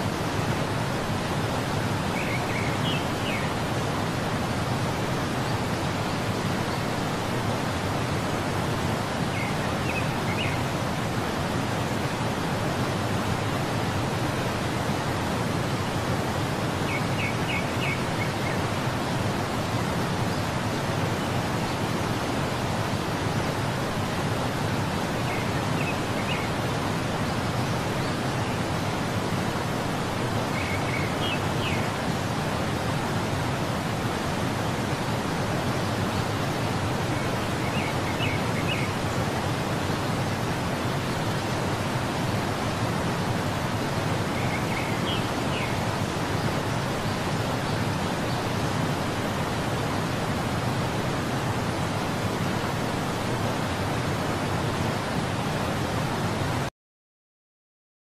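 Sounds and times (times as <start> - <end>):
waterfall rushing: 0.0 - 56.7.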